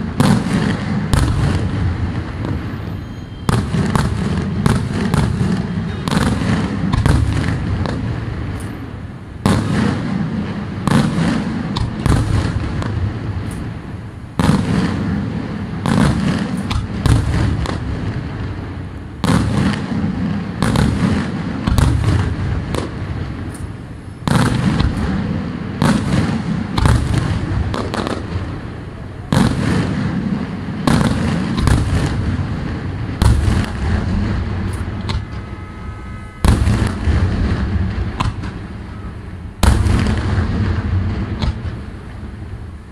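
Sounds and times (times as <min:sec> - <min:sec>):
fireworks bursting: 0:00.0 - 0:42.9.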